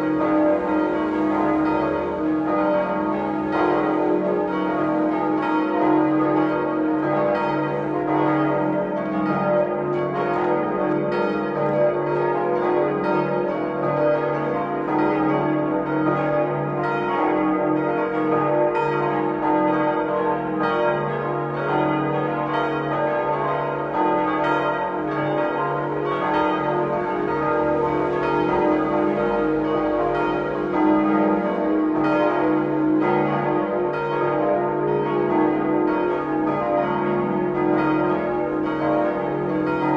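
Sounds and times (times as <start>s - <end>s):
church bells ringing in a peal: 0.0s - 39.9s.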